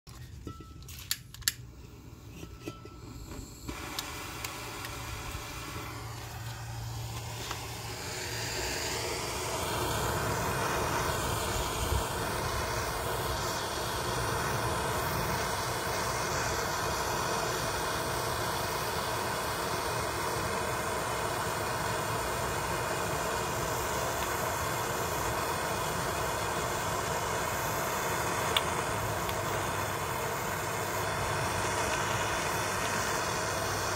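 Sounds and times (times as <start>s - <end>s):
blowtorch igniter clicks: 0.8s - 1.8s, 2.4s - 33.9s
blowtorch flame hissing: 1.7s - 33.9s.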